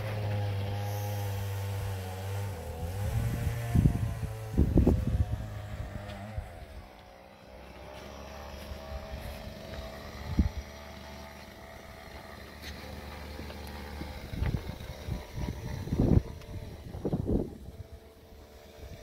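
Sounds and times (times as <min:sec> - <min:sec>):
motor drone: 0:00.0 - 0:19.0.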